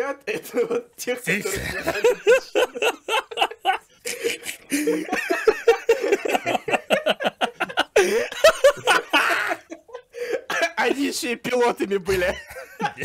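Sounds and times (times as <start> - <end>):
men laughing hard: 1.4 - 11.1, 12.1 - 13.0.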